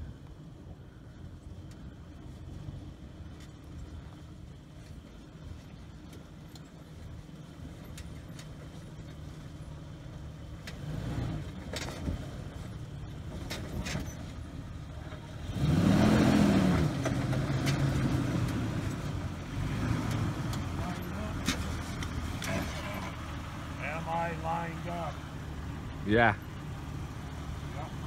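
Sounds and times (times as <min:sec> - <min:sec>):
engine pulling at low revs: 0:00.0 - 0:28.0.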